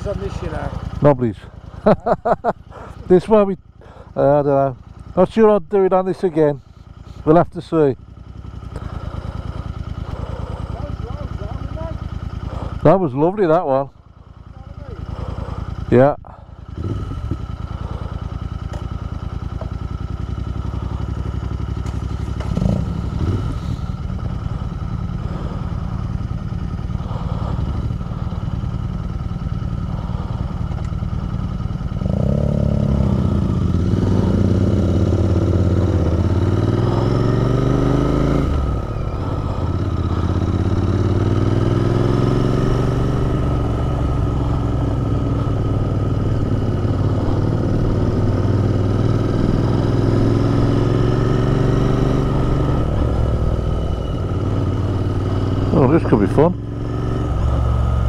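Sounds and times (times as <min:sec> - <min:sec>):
motorcycle engine idling and accelerating: 0:00.0 - 0:58.0.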